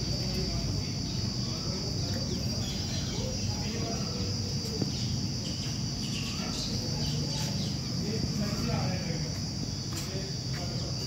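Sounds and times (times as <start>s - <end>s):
faint voices: 0.0s - 11.0s
high-pitched insect drone: 0.0s - 11.0s.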